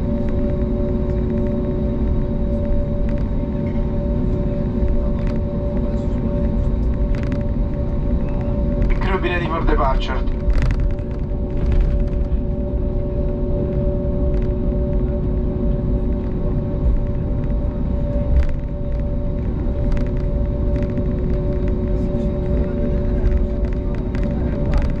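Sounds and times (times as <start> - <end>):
low cabin rumble: 0.0 - 25.0
two-note jet engine hum: 0.0 - 25.0.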